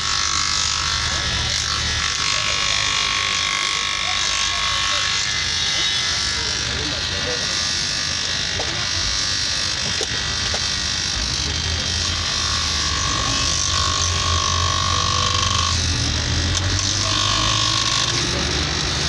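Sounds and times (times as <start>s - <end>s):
bench grinder motor hum: 0.0s - 19.0s.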